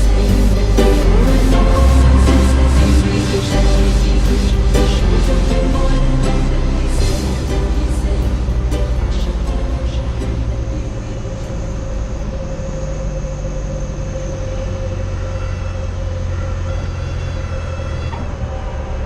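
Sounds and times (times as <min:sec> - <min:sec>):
small airplane engine droning: 0:00.0 - 0:19.0.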